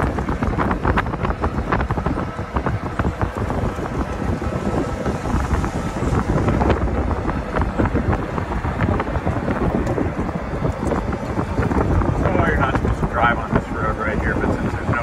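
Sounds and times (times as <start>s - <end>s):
golf cart driving: 0.0s - 15.0s
wind buffeting microphone: 0.0s - 15.0s.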